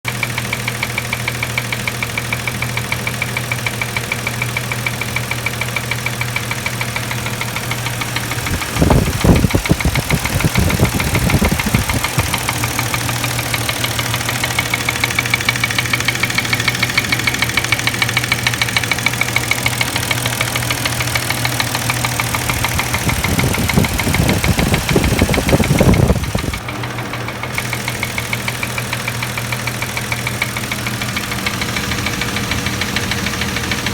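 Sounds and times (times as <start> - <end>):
engine idling with knocking: 0.0 - 33.9.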